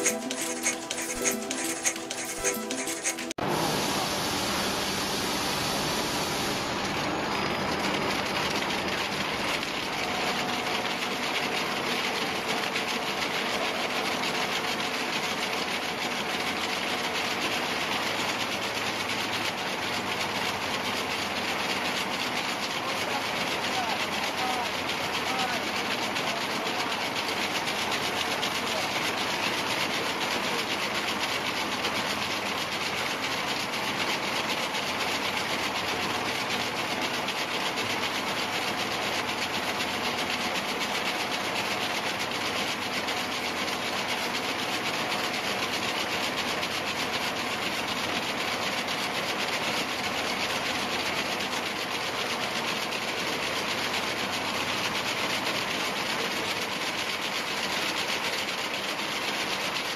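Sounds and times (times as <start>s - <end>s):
braiding machine running: 0.0s - 59.9s.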